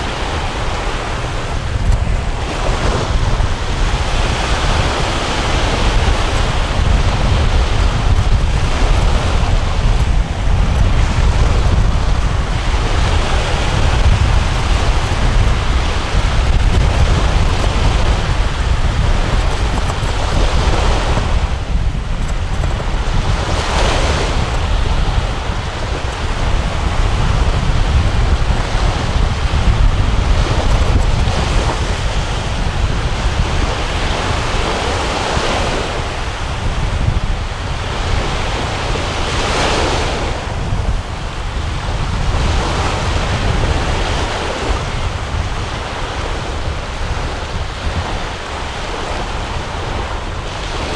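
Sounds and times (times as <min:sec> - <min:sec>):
surf washing on shore: 0:00.0 - 0:50.9
wind buffeting microphone: 0:00.0 - 0:50.9.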